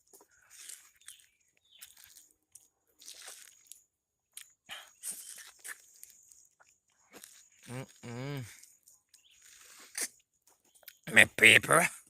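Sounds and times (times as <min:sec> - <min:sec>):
man chewing mango: 0:00.0 - 0:11.1.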